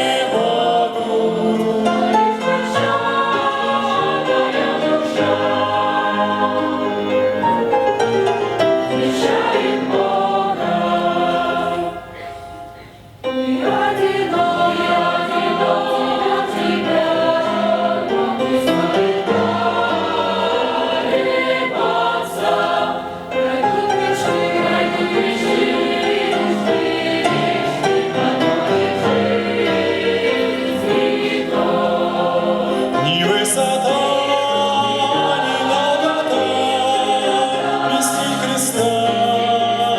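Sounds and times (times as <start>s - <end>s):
choir singing a hymn: 0.0s - 39.9s
musical accompaniment: 0.0s - 39.9s.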